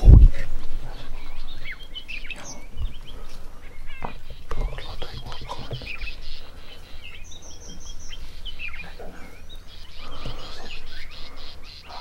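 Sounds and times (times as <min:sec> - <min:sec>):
birds chirping and calling: 0:00.0 - 0:12.0
low background noise: 0:00.0 - 0:12.0.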